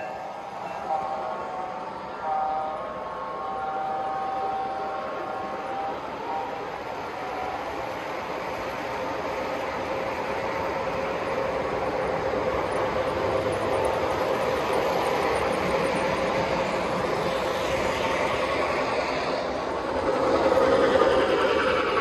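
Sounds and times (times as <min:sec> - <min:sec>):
model train rumbling on track: 0:00.0 - 0:22.0.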